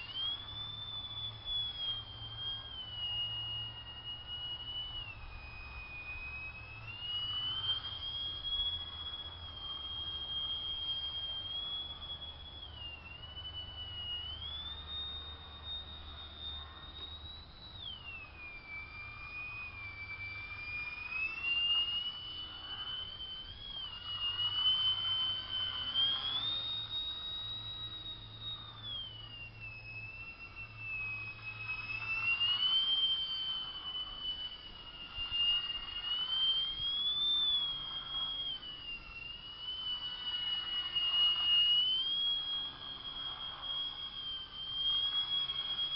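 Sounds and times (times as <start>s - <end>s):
model plane motor whining: 0.0s - 45.9s.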